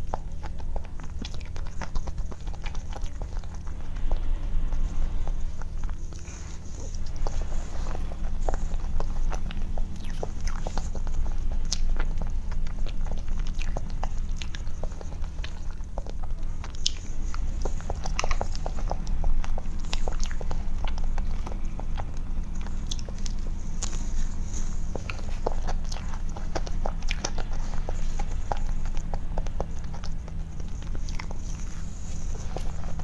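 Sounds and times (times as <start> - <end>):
chewing and wet mouth sounds: 0.0 - 33.0
steady low hum: 0.0 - 33.0.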